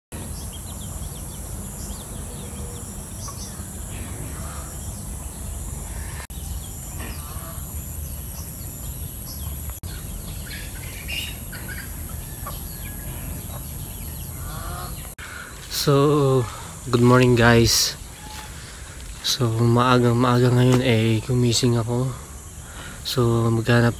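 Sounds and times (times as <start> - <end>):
steady low rumble: 0.1 - 23.9
bird chirps: 0.2 - 23.9.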